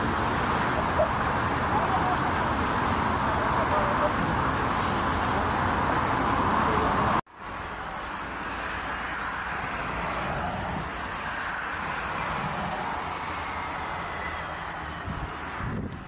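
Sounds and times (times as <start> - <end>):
quieter jet engine noise: 0.0 - 16.0.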